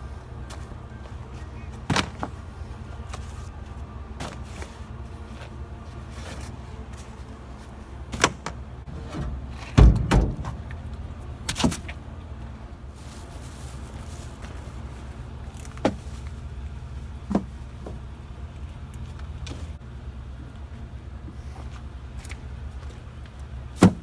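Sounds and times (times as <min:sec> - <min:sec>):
steady low rumble: 0:00.0 - 0:23.8.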